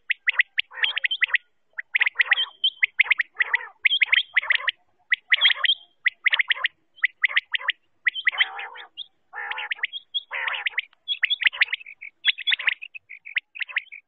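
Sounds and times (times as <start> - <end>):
quail chirping: 0.0 - 14.0
raspy quail calls: 0.0 - 14.0.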